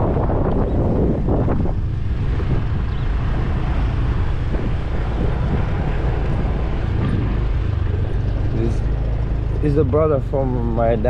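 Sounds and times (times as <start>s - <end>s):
motorbike engine rumbling: 0.0s - 11.0s.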